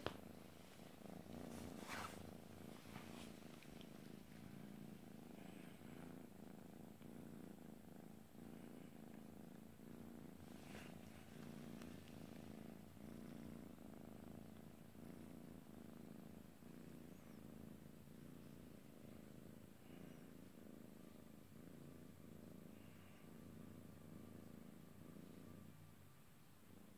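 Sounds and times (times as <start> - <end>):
cat purring: 0.0 - 26.9.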